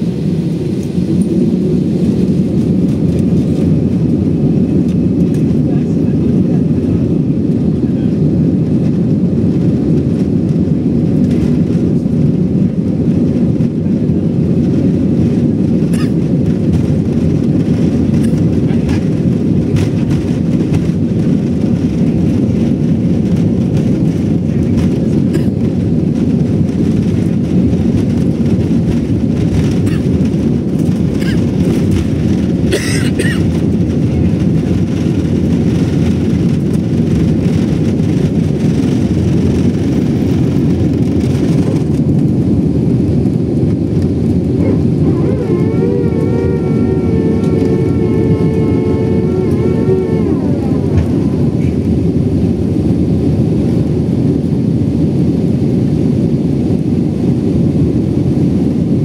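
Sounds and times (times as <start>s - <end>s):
jet engines and wheels rumbling: 0.0s - 59.0s.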